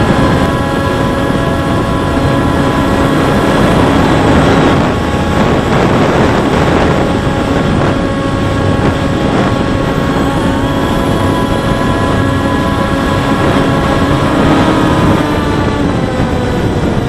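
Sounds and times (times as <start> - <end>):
model plane motor whining: 0.0 - 17.0
wind rushing: 0.0 - 17.0.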